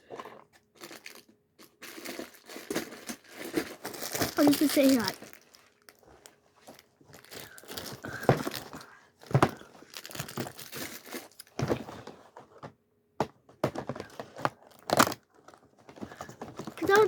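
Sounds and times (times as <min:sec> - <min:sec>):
packaging crinkling and rustling: 0:00.6 - 0:12.6, 0:13.6 - 0:17.0.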